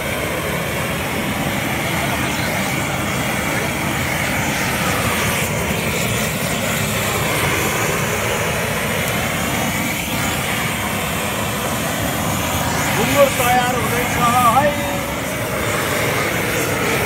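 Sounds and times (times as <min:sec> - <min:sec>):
blowtorch hissing: 0:00.0 - 0:17.0.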